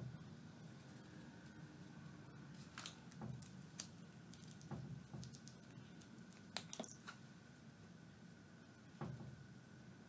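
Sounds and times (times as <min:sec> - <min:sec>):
faint workshop hum: 0:00.0 - 0:10.0.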